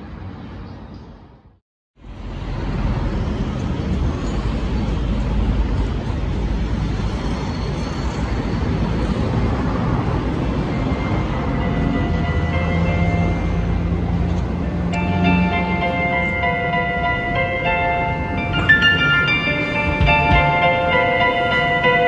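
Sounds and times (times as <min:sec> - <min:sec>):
highway traffic noise: 0:00.0 - 0:22.0.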